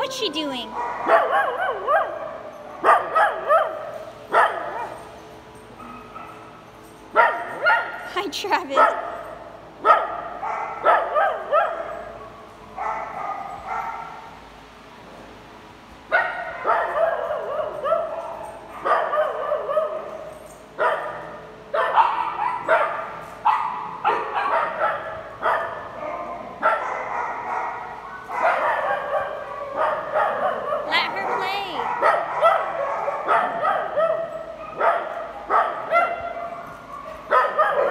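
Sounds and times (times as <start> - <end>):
small dogs barking and yipping: 0.0 - 14.4, 16.1 - 37.9.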